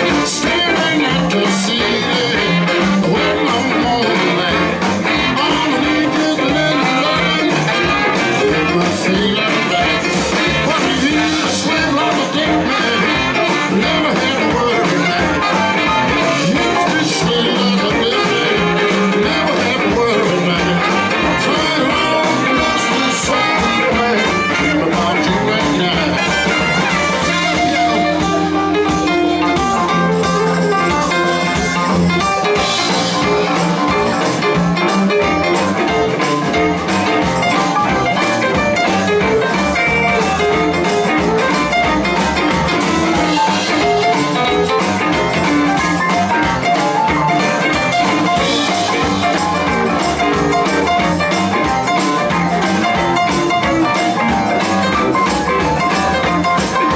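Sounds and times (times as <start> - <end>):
guitar playing: 0.0 - 56.9
live blues band: 0.0 - 56.9.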